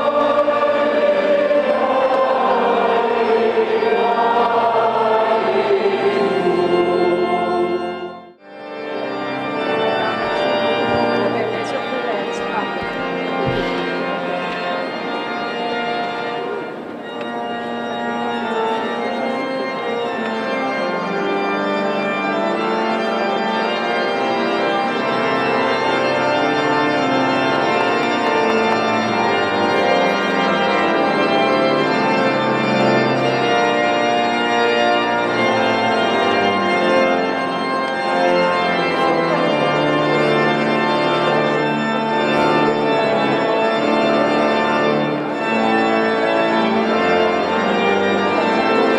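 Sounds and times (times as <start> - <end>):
pipe organ playing chords: 0.0 - 48.9.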